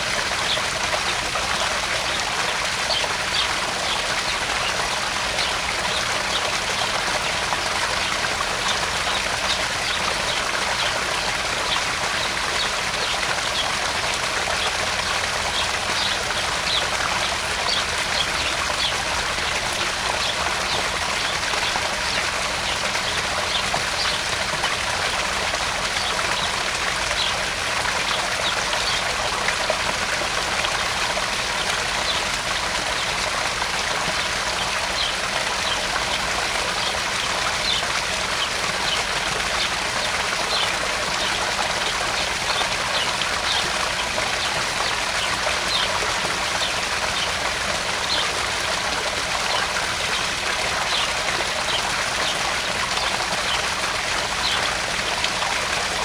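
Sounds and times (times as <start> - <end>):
small waterfall pouring into pond: 0.0 - 56.0
water splashes and drips: 0.0 - 56.0.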